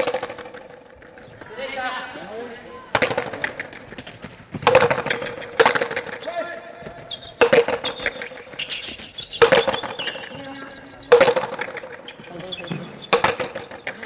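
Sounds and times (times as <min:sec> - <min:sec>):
ball cracking off wooden paddles: 0:00.0 - 0:01.5, 0:02.9 - 0:10.4, 0:11.1 - 0:14.0
ball hitting concrete walls: 0:00.0 - 0:14.0.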